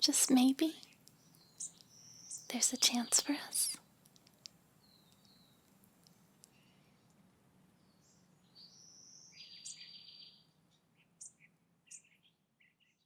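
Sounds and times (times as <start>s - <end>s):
songbird trills and chirps: 0.0s - 13.0s.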